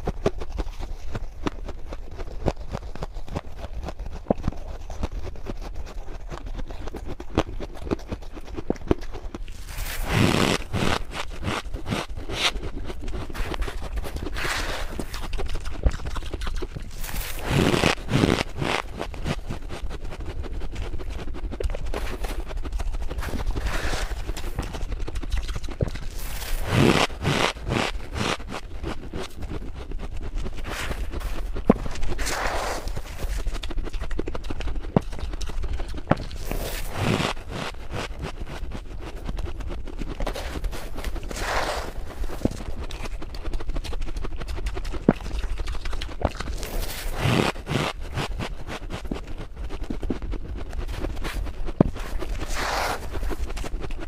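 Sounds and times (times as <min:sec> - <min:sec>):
frost crunching in the mouth: 0:00.0 - 0:54.0
spoon scraping frost: 0:00.0 - 0:54.0.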